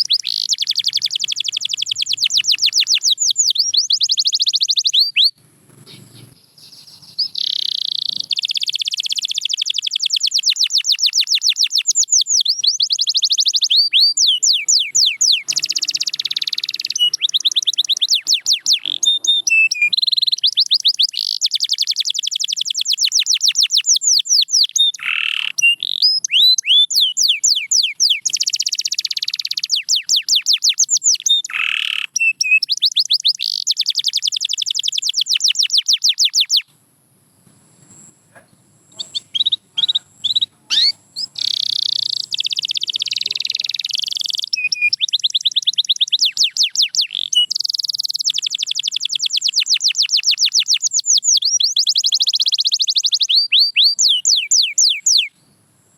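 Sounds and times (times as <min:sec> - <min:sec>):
canary singing fast trills: 0:00.0 - 0:36.7, 0:37.8 - 0:55.7.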